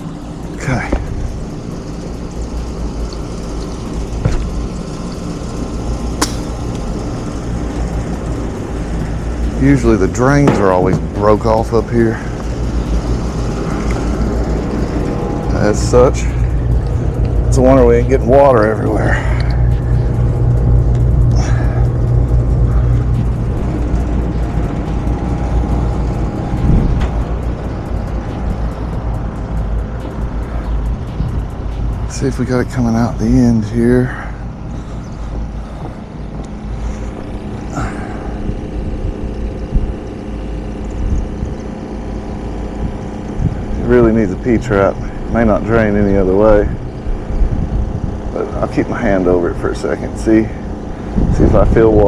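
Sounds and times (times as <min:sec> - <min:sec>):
hvac units humming: 0:00.0 - 0:52.0.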